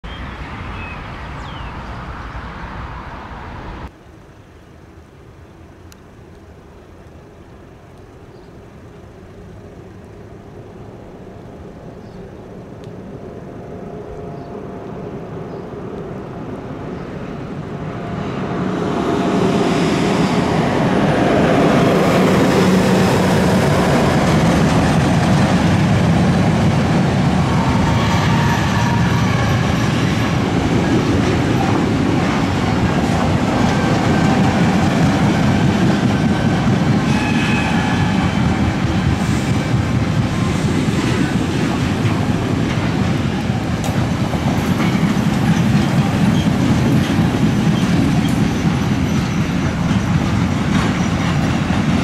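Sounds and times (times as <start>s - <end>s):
freight train rumbling past: 9.1s - 52.0s.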